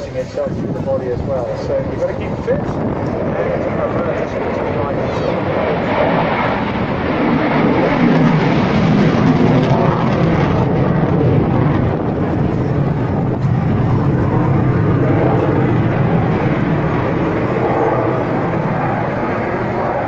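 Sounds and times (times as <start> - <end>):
fighter jet roaring overhead: 0.0 - 20.0.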